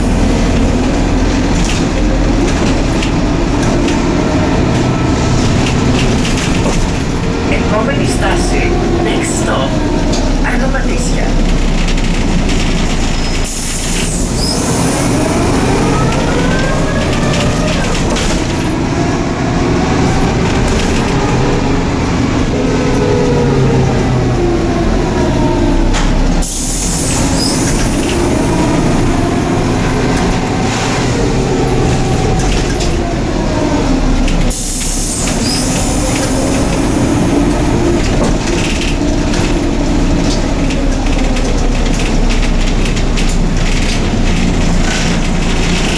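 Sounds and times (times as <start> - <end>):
bus engine and driveline whine: 0.0 - 45.9.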